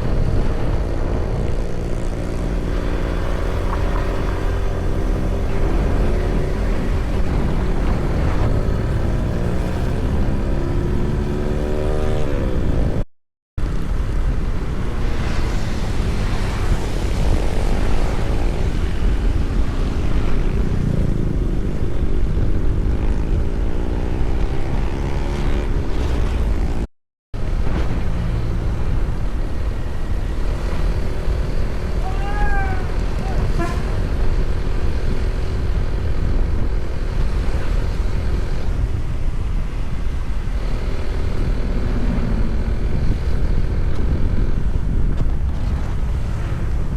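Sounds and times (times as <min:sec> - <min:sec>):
road and wind noise: 0:00.0 - 0:46.9
vehicle engine accelerating: 0:00.0 - 0:46.9.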